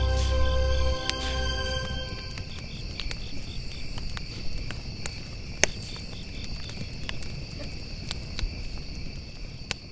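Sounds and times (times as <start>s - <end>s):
campfire crackling: 0.0s - 9.9s
night insects trilling: 0.0s - 9.9s
fire popping: 1.1s - 9.8s.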